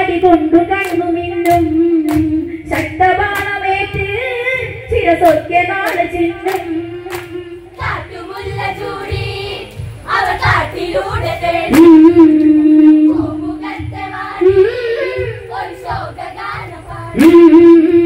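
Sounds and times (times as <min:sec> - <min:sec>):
steady low beat: 0:00.0 - 0:18.0
group singing folk song: 0:01.5 - 0:18.0.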